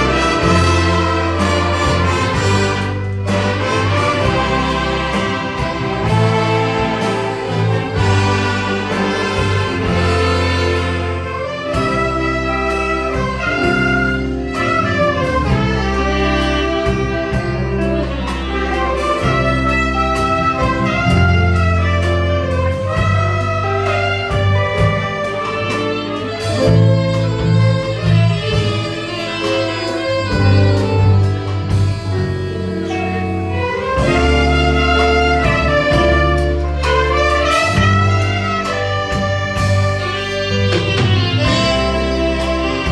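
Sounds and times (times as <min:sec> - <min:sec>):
brass and saxophone melody: 0:00.0 - 0:42.9
orchestra playing: 0:00.0 - 0:42.9
steady bass line: 0:00.0 - 0:42.9
strings: 0:00.0 - 0:42.9.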